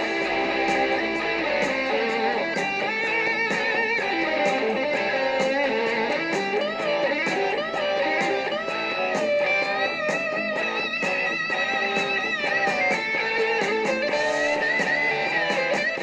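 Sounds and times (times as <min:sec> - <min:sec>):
electric guitar lead: 0:00.0 - 0:16.0
rock band with drums: 0:00.0 - 0:16.0.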